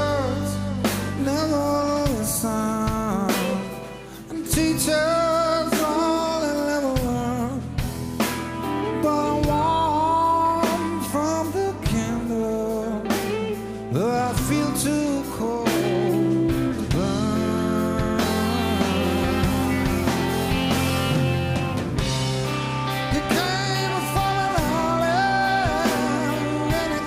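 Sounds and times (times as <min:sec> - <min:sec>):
man singing: 0:00.0 - 0:07.9, 0:08.6 - 0:21.2, 0:23.0 - 0:27.0
bass guitar: 0:00.0 - 0:27.0
electric guitar: 0:00.0 - 0:27.0.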